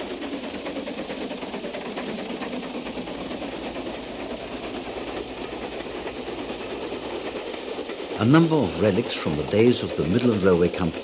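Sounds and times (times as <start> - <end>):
train rolling on track: 0.0 - 11.0.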